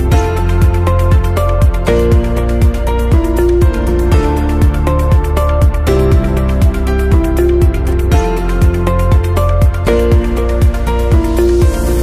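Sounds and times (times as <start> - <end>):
fast electronic drum beat: 0.1 - 12.0.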